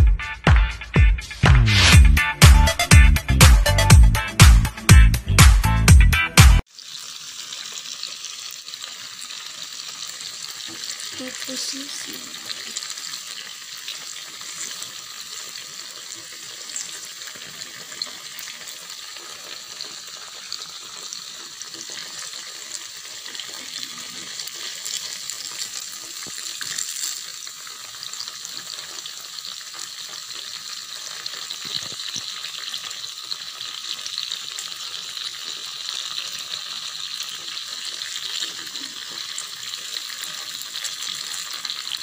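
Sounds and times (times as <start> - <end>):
tofu sizzling in hot oil: 6.6 - 42.0.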